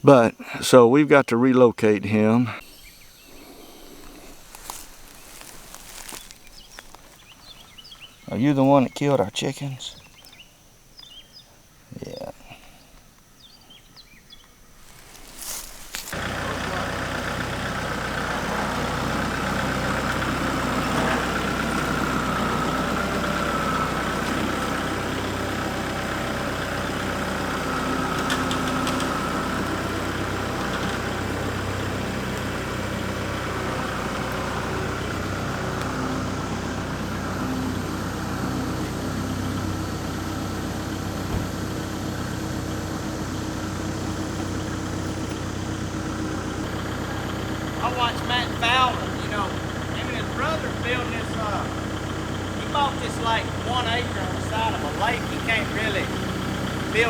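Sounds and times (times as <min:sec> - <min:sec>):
vehicle engine running steadily: 0:04.1 - 0:08.2, 0:14.8 - 0:57.0.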